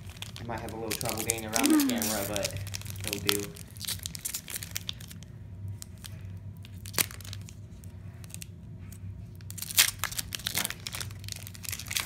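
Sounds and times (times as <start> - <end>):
foil wrapper crinkling and tearing: 0.0 - 8.5, 9.3 - 12.0.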